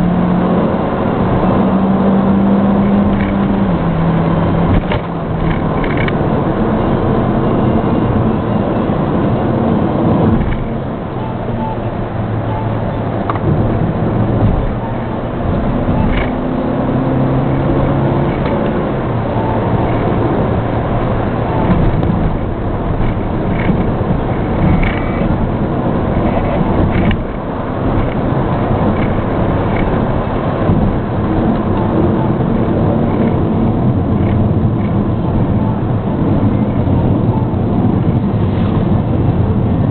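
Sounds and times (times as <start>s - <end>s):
car engine hum: 0.0s - 39.9s
road noise: 0.0s - 39.9s.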